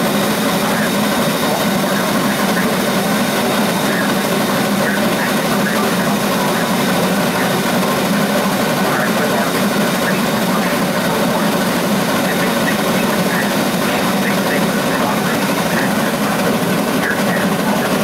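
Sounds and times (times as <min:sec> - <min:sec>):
steam locomotive running: 0:00.0 - 0:18.0.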